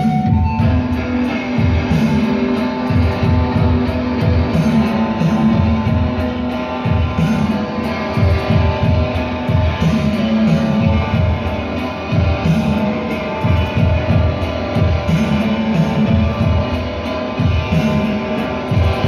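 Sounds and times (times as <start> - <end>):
electric guitar through amplifier: 0.0 - 19.0.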